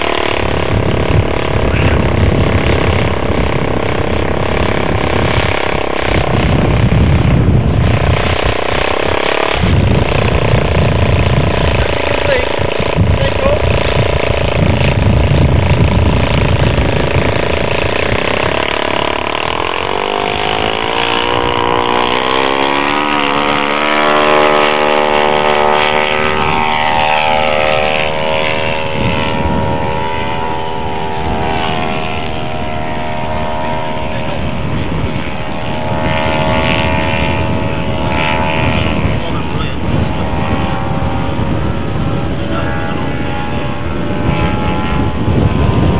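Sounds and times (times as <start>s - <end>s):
model aircraft engine: 0.0s - 45.9s.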